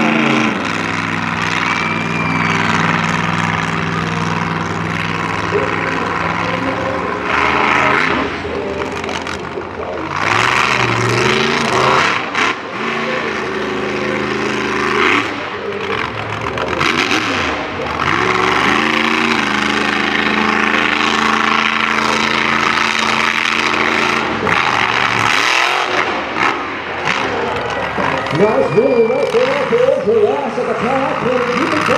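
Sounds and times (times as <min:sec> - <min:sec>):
monster truck engine revving: 0:00.0 - 0:31.9.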